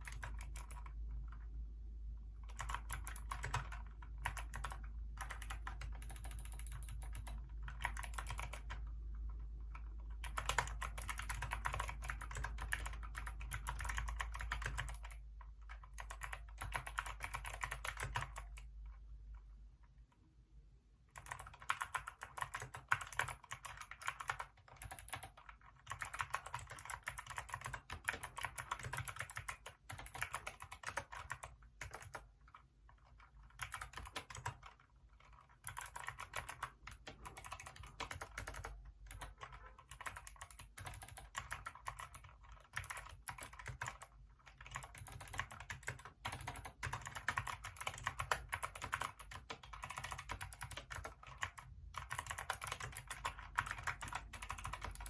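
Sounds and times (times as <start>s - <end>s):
fast typing on mechanical keyboard: 0.0s - 1.4s, 2.5s - 18.7s, 21.1s - 55.0s.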